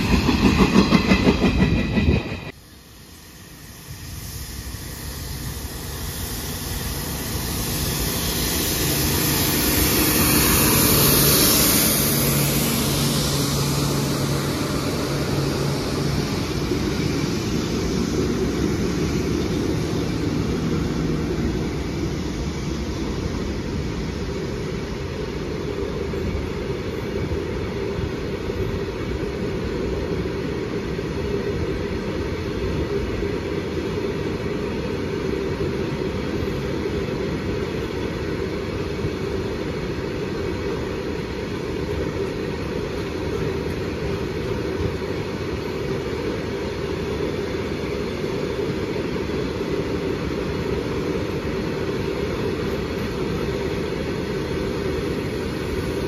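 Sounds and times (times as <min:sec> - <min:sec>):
electric locomotive humming: 0:00.0 - 0:56.0.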